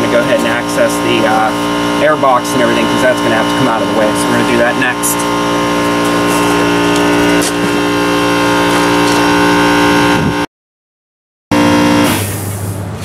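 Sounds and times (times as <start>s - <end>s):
loud machine hum: 0.0s - 10.5s, 11.5s - 13.0s.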